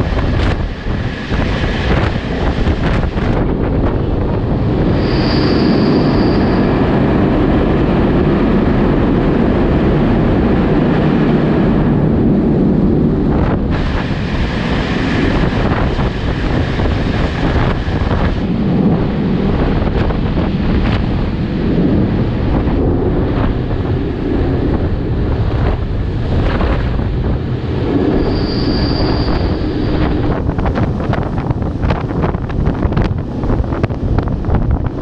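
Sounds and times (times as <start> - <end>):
low rumble of movement: 0.0 - 35.0
wind buffeting microphone: 0.0 - 35.0.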